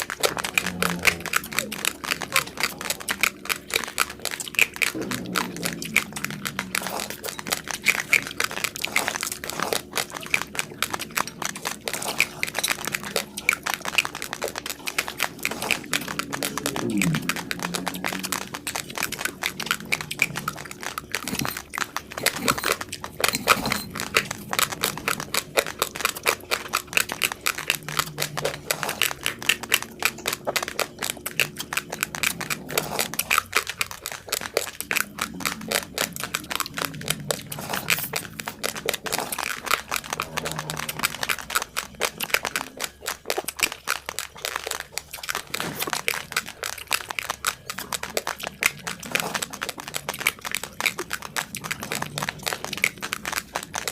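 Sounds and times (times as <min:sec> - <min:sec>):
raw rice being chewed: 0:00.0 - 0:53.9.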